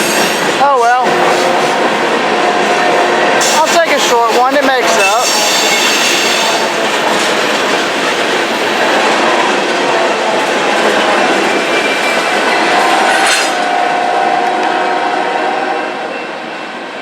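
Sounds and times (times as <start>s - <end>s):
train wheels over rail joints: 0.0s - 17.0s.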